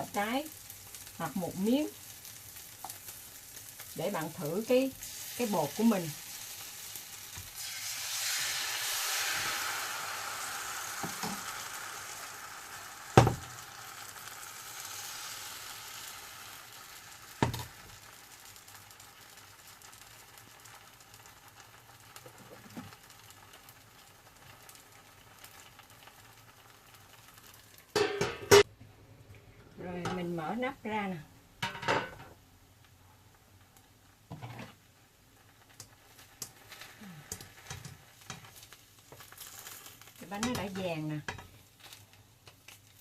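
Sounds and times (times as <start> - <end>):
batter sizzling in frying pan: 0.0 - 28.6, 29.8 - 43.0.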